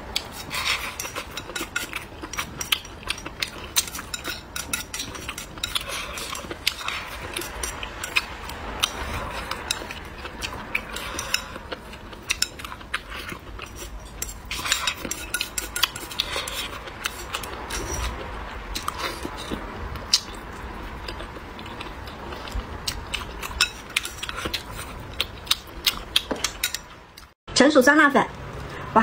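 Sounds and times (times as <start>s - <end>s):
chewing and mouth noises: 0.0s - 27.4s.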